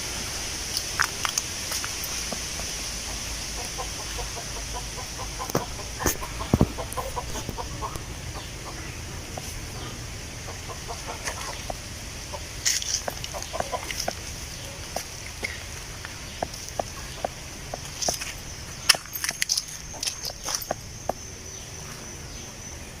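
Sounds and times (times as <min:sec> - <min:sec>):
wind rustling tree leaves: 0:00.0 - 0:23.0.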